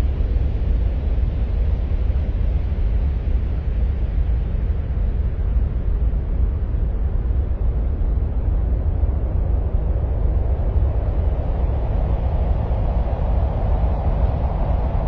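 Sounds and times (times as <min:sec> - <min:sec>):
deep rumbling ambient drone: 0:00.0 - 0:15.0.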